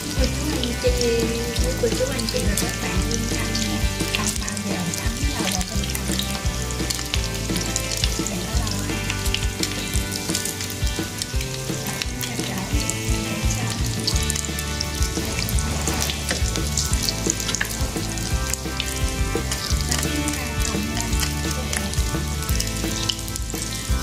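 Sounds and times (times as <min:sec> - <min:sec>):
background music: 0:00.0 - 0:24.0
bread rolls deep-frying in oil: 0:00.0 - 0:24.0.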